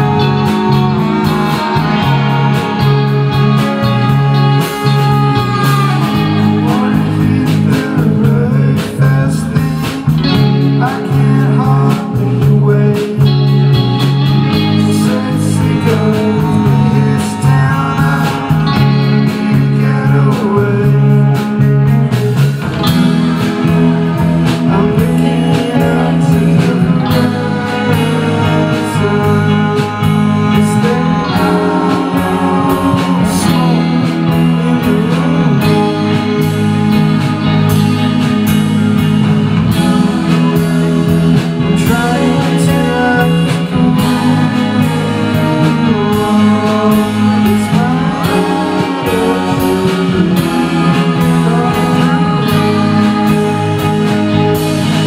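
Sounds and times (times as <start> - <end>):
electric guitars: 0.0 - 55.0
keyboard: 0.0 - 55.0
person singing: 0.0 - 55.0
saxophone: 0.0 - 55.0.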